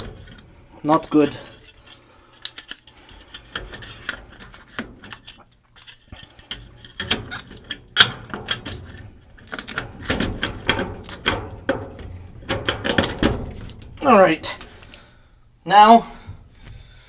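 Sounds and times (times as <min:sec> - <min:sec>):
hands clicking and rattling panel: 0:00.0 - 0:15.1.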